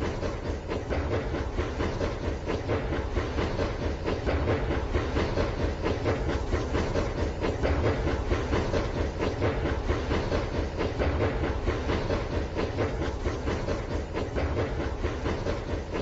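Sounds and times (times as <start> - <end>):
rapid clicking and rattling: 0.0 - 16.0.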